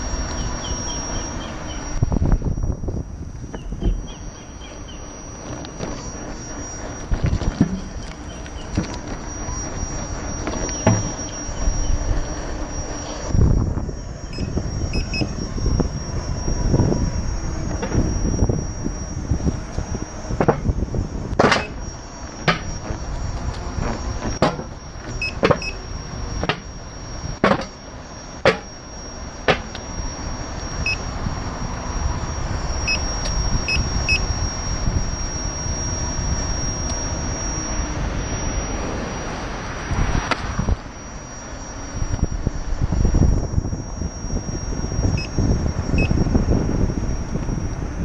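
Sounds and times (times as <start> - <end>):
faint short beeps: 0.0 - 2.8, 3.4 - 20.6, 21.5 - 31.2, 31.8 - 39.4, 40.5 - 47.4
thin high whine: 0.0 - 48.0
tyre and wind rumble: 1.3 - 27.8, 29.6 - 48.0.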